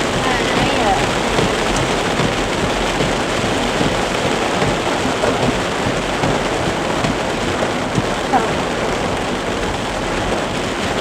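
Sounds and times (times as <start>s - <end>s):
heavy rain drumming on a car: 0.0s - 11.0s.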